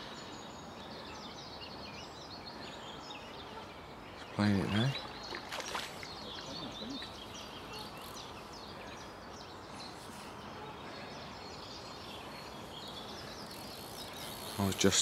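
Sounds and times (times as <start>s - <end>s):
light outdoor hiss: 0.0s - 15.0s
small birds chirping: 0.0s - 15.0s.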